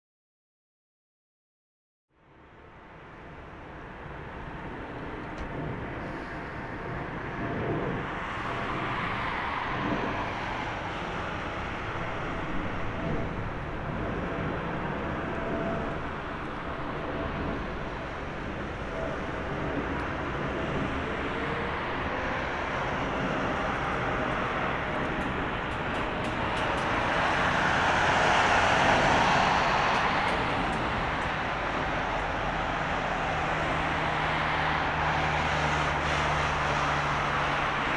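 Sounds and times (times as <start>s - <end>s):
jet airliner engine rushing: 3.2s - 37.9s.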